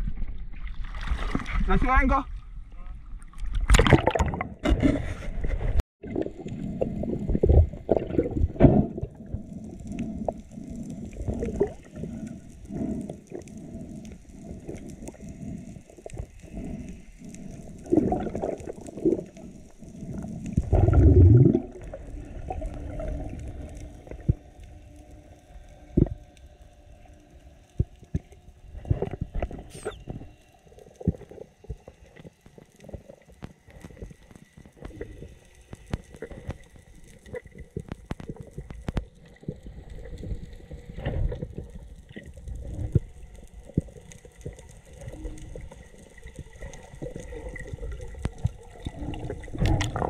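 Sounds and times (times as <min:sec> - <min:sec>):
underwater water rushing: 0:00.0 - 0:26.2, 0:27.0 - 0:50.0.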